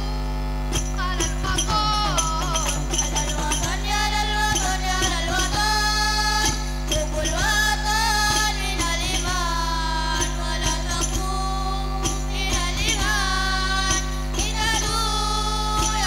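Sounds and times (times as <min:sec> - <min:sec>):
low electrical hum: 0:00.0 - 0:16.0
frame drums: 0:00.7 - 0:16.0
jingling tambourine: 0:00.7 - 0:16.0.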